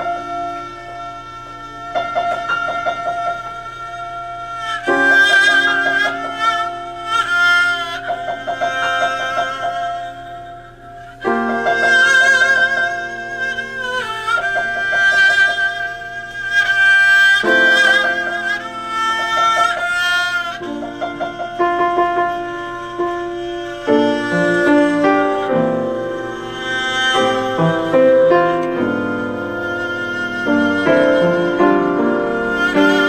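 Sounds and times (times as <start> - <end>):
piano accompaniment: 0.0 - 33.0
violin long notes with vibrato: 0.0 - 33.0.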